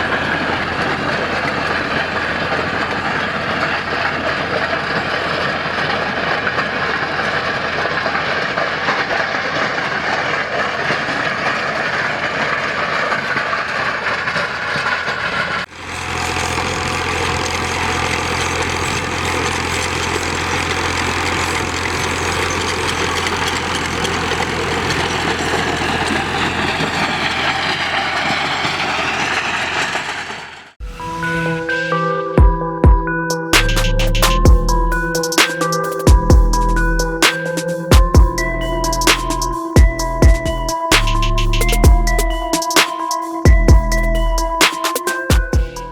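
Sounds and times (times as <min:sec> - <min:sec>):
machinery churning: 0:00.0 - 0:45.9
tractor diesel engine running: 0:00.0 - 0:45.9.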